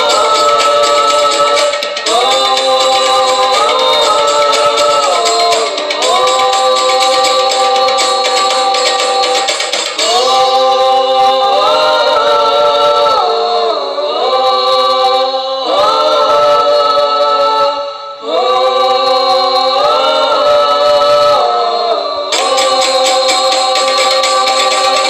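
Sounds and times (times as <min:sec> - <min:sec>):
women singing unaccompanied: 0:00.0 - 0:25.0.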